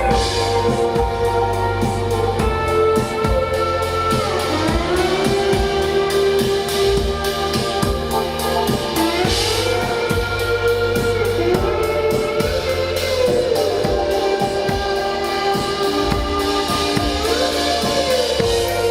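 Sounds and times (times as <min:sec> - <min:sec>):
band playing: 0:00.0 - 0:18.9
bass: 0:00.0 - 0:18.9
sliding melodic lines: 0:00.0 - 0:18.9
steady drum beat: 0:00.0 - 0:18.9.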